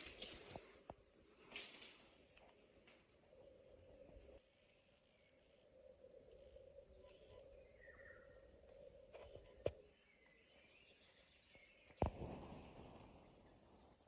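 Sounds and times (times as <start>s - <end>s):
faint chirps: 1.1s - 14.0s.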